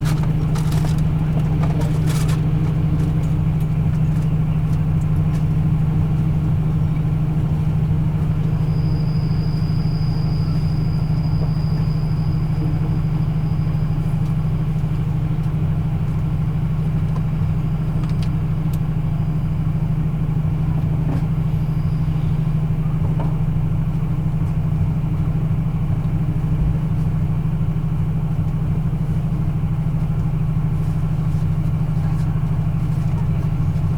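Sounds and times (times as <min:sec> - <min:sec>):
train diesel engine idling: 0:00.0 - 0:33.9.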